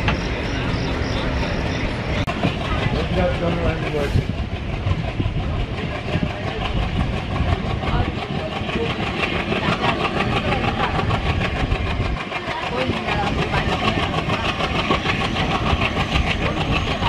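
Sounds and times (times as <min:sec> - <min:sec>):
diesel locomotive engine: 0:00.0 - 0:17.0
train coaches rumbling on track: 0:00.0 - 0:17.0.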